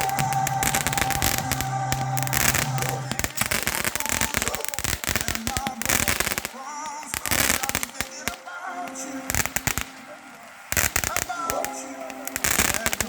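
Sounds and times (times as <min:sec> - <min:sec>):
music playing: 0:00.0 - 0:05.9, 0:06.5 - 0:13.0
fireworks crackling and banging: 0:00.0 - 0:13.0.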